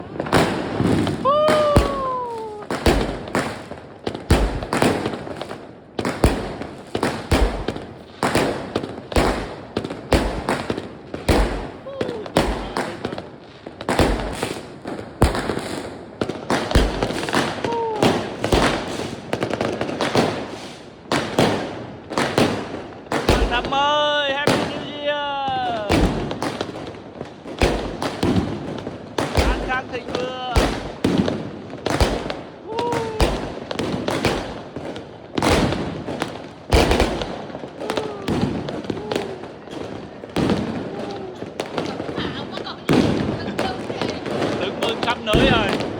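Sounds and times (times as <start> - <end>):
firework shells booming: 0.0 - 24.9, 25.5 - 45.9
fireworks crackling: 0.0 - 45.9.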